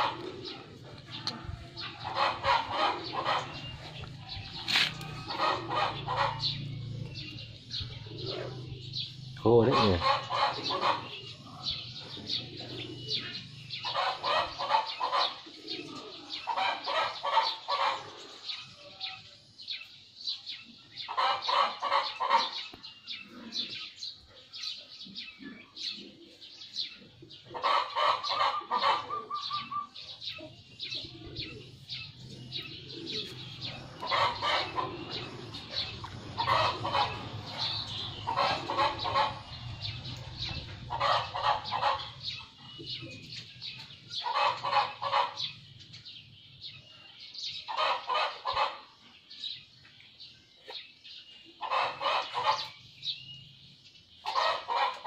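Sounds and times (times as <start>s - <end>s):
birds chattering: 0.0s - 55.0s.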